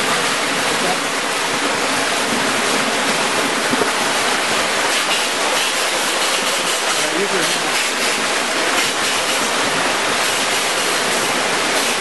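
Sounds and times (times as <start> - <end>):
flood water rushing: 0.0 - 12.0.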